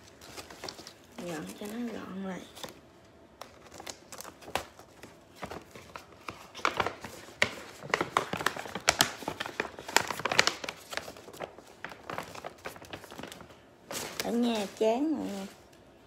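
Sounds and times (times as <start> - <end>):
paper bag and tissue crinkling: 0.0 - 2.8, 3.4 - 16.0.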